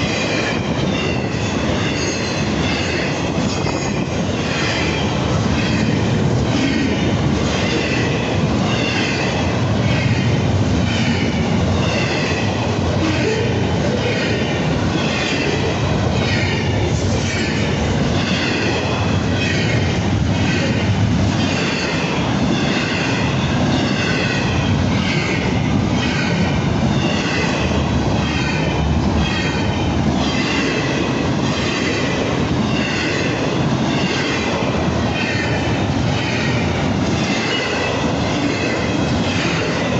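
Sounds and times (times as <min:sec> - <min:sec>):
train rumble: 0:00.0 - 0:39.9.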